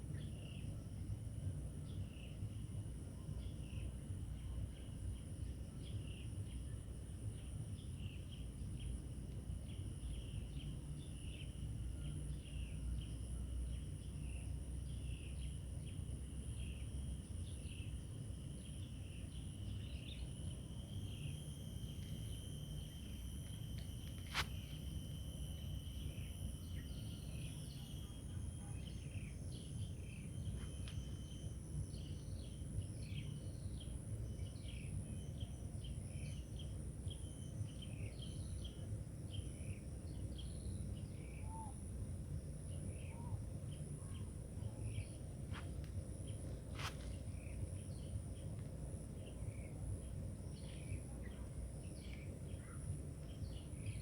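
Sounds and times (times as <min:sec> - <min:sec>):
insects whining: 0:05.9 - 0:54.0.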